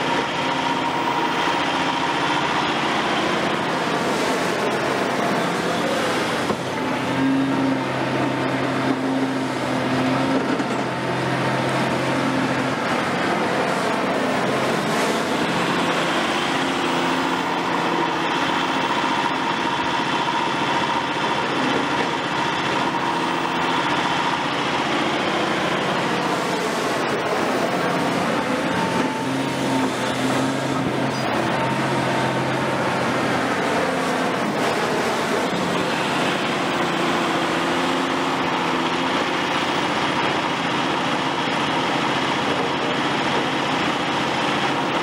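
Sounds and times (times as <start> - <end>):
excavator diesel engine running: 0.0 - 45.0
high steady whine: 0.0 - 45.0.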